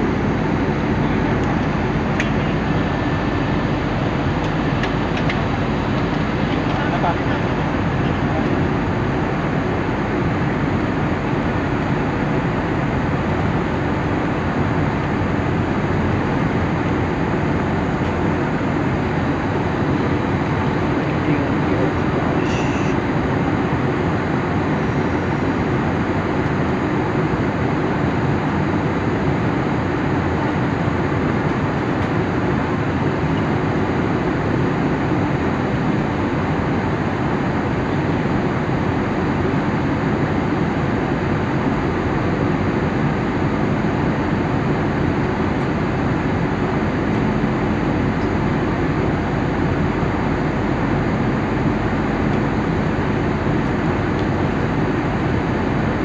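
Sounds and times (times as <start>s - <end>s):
airliner cabin engine and airflow rush: 0.0s - 56.0s.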